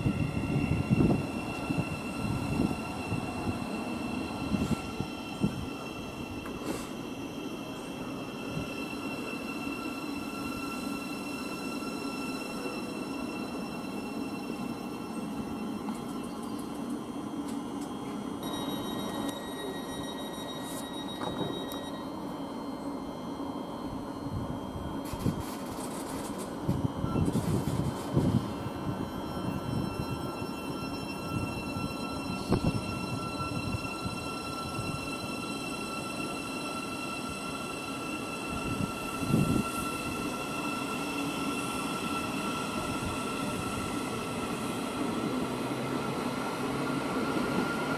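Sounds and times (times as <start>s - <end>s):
train rail rumble: 0.0s - 21.9s, 23.8s - 47.9s
high steady train whine: 0.0s - 47.9s.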